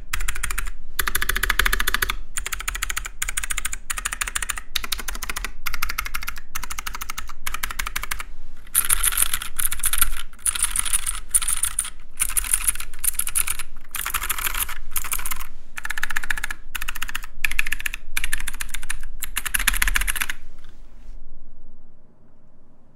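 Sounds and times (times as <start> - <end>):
mechanical keyboard typing: 0.0 - 20.4.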